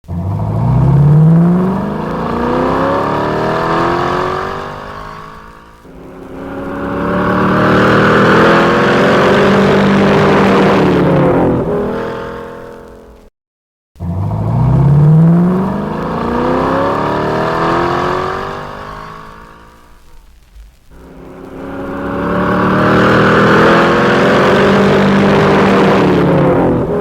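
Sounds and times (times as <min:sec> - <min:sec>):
car engine accelerating: 0:00.0 - 0:13.3, 0:14.0 - 0:27.0.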